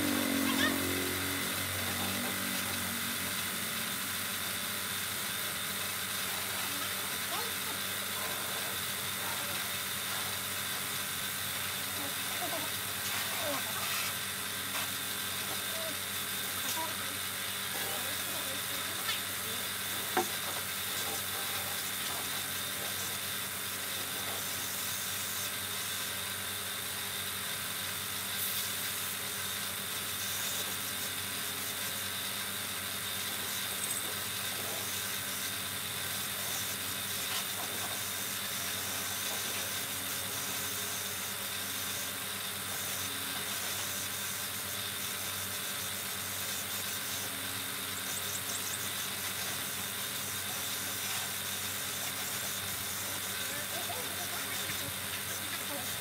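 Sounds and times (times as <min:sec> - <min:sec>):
motor hum: 0:00.0 - 0:56.0
paint spray gun hissing: 0:00.0 - 0:56.0.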